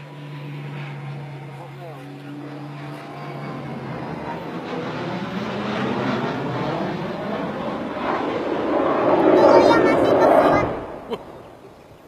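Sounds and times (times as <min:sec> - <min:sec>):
jet engine flying by: 0:00.0 - 0:12.0.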